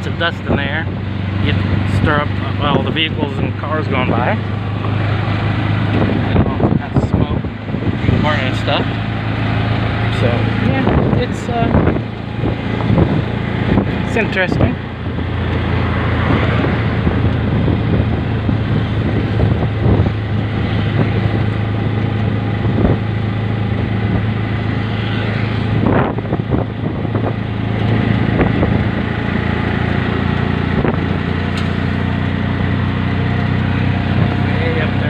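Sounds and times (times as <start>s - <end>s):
road and traffic noise: 0.0s - 35.0s
vehicle engine droning: 0.0s - 35.0s.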